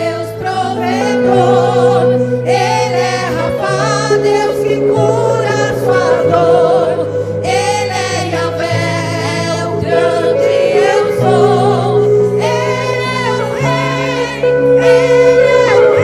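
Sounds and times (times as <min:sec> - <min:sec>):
bass and keyboard accompaniment: 0:00.0 - 0:16.0
women's vocal group singing: 0:00.0 - 0:16.0.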